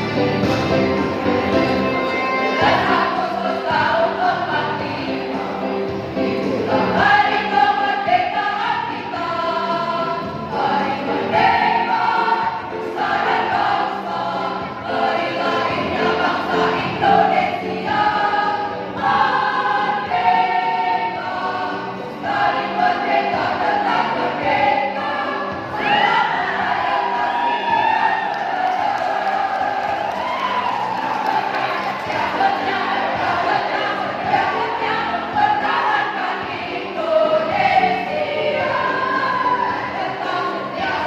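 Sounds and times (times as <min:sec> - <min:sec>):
women's choir singing: 0:00.0 - 0:41.0.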